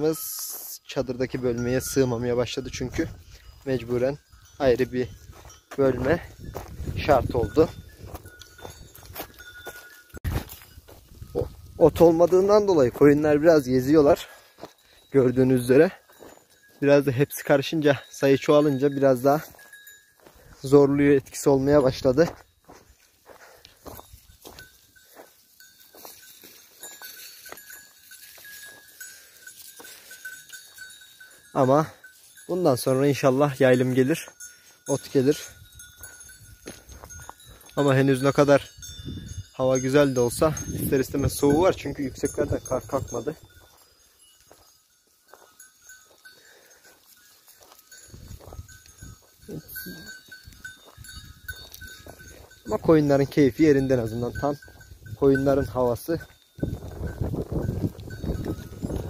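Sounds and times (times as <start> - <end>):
livestock bell clinking: 0.0 - 59.0
footsteps on stony ground: 0.2 - 59.0.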